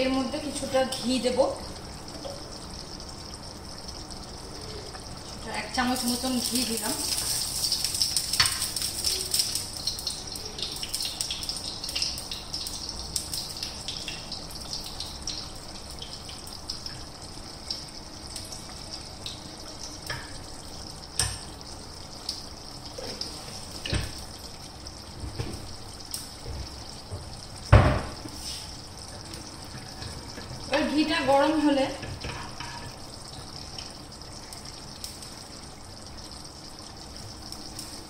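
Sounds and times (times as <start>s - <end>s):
ghee sizzling in a frying pan: 0.0s - 38.0s.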